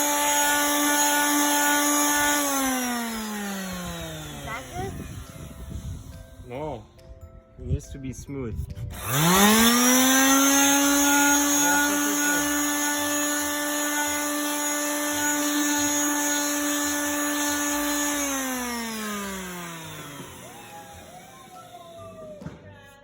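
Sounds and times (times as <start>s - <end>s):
electric power tool motor: 0.0s - 6.2s, 8.9s - 22.5s.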